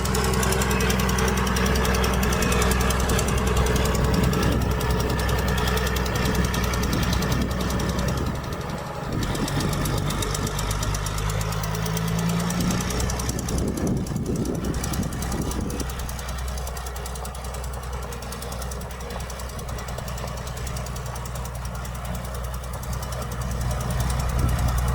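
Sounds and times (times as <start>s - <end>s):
heavy diesel engine clattering: 0.0s - 24.9s.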